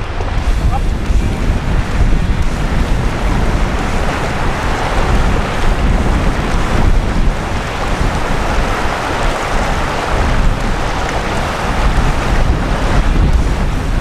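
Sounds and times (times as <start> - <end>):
river water rushing: 0.0 - 14.0
rushing wind: 0.0 - 14.0
wind buffeting microphone: 0.0 - 14.0.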